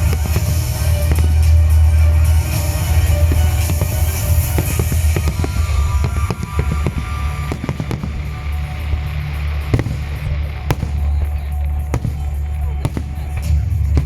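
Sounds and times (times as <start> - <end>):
firework bang: 0.0 - 14.0
fireworks popping and crackling: 0.0 - 14.0.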